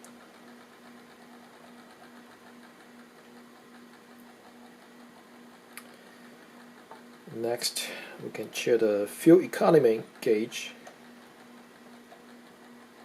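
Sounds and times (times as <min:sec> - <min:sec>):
faint whir of a gear train: 0:00.0 - 0:13.0
low steady hum: 0:00.0 - 0:13.0.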